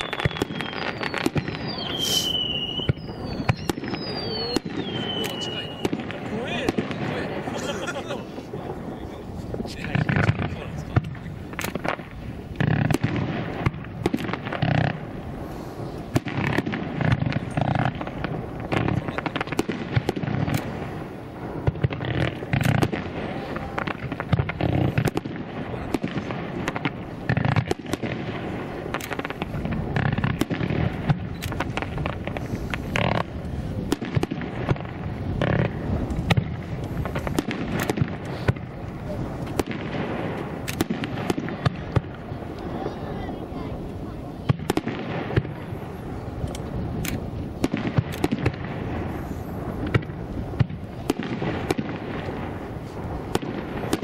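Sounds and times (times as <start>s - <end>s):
fireworks booming and banging: 0.0s - 54.0s.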